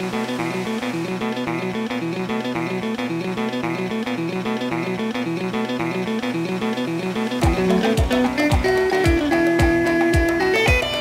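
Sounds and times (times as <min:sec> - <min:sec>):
guitar picking repeating pattern: 0:00.0 - 0:11.0.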